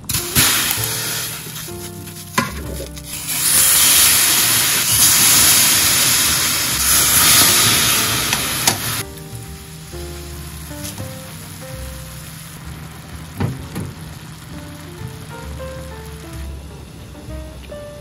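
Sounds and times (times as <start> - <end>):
meat sizzling in a frying pan: 0.1 - 16.6.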